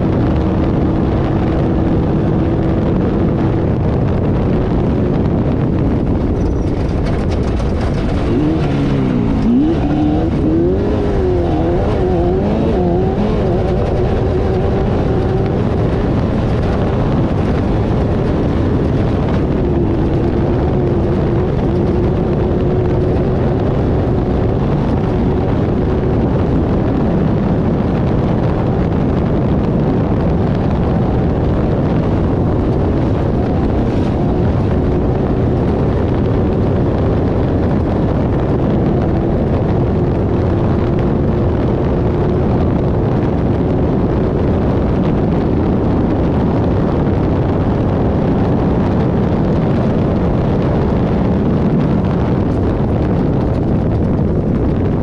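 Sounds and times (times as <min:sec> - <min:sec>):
driving noise: 0:00.0 - 0:55.0
race car engine running hard: 0:00.0 - 0:55.0.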